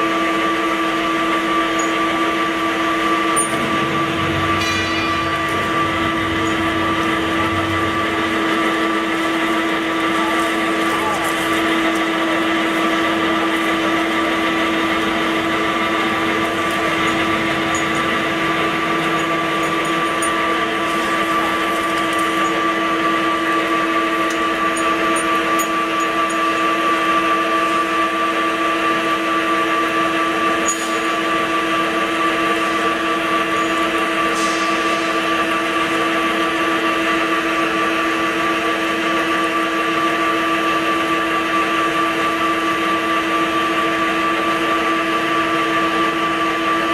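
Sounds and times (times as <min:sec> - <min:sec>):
drilling machine whine: 0:00.0 - 0:46.9.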